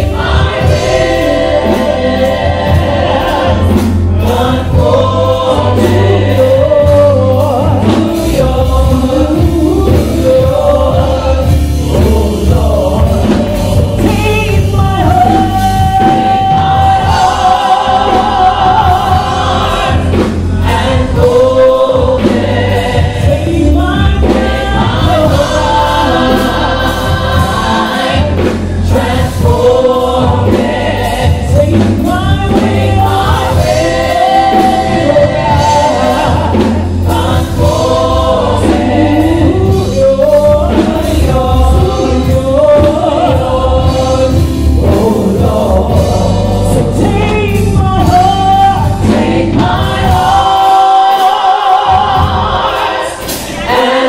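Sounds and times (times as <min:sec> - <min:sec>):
steady low bass: 0:00.0 - 0:50.5
lead vocalist singing: 0:00.0 - 0:54.0
women's gospel choir singing: 0:00.0 - 0:54.0.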